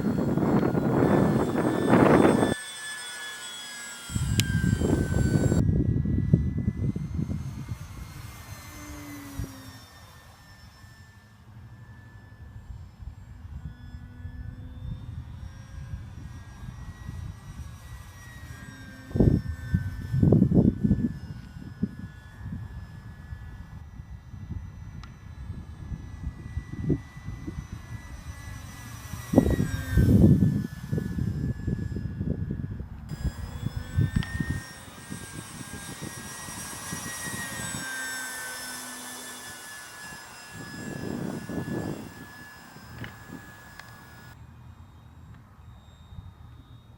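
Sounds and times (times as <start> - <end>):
wind rumble on microphone: 0.0 - 2.6, 4.1 - 9.7, 12.4 - 38.0, 39.4 - 44.4
low wind buffets: 0.0 - 2.8, 4.0 - 10.4, 11.4 - 44.8
model plane motor whine: 0.0 - 46.9.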